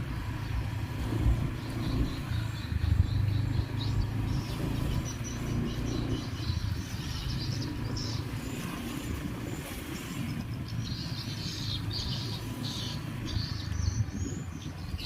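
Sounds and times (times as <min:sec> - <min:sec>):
birds chirping: 0:00.0 - 0:15.0
vehicle engine rumbling: 0:00.0 - 0:15.0.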